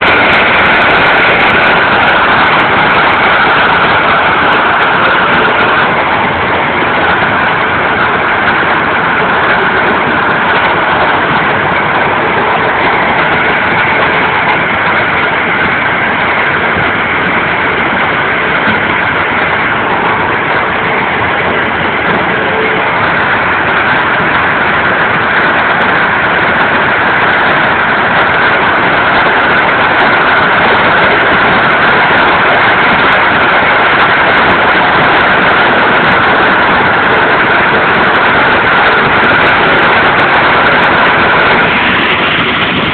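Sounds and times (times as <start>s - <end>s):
hailstones striking: 0.0s - 42.9s.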